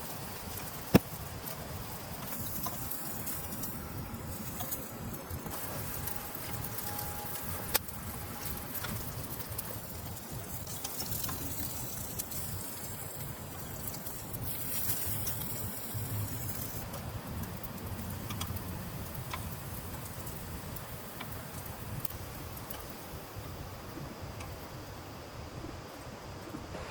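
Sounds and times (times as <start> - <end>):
rain pattering: 0.0 - 26.9.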